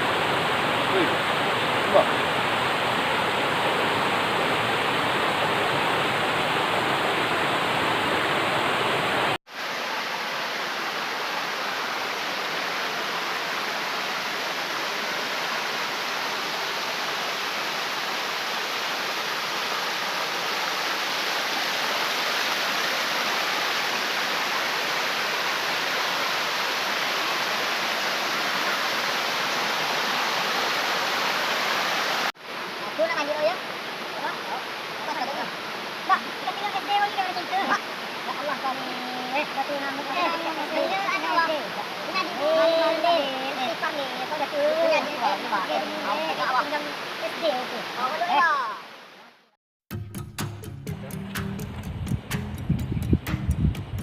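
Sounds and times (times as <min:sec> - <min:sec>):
flowing water rushing: 0:00.0 - 0:49.6.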